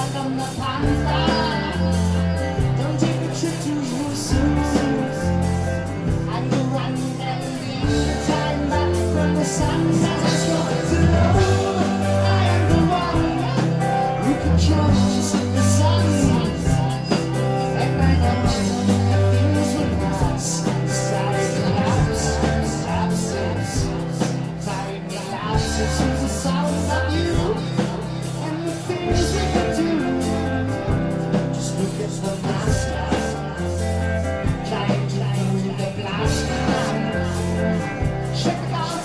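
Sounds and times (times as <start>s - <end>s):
live rock band: 0.0s - 39.0s
person singing: 0.0s - 39.0s.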